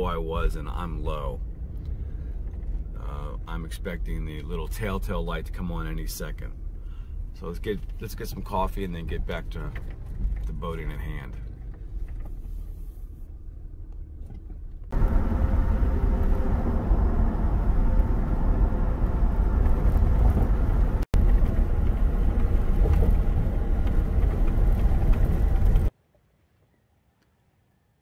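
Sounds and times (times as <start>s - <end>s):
road and engine noise: 0.0s - 26.0s.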